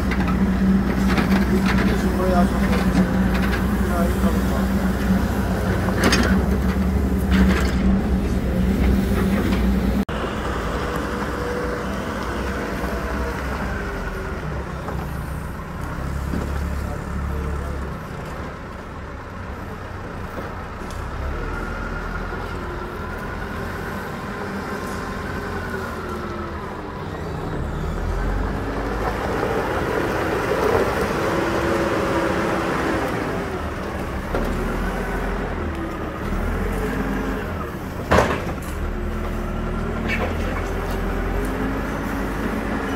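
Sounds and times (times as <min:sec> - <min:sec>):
backhoe diesel engines running: 0:00.0 - 0:42.9.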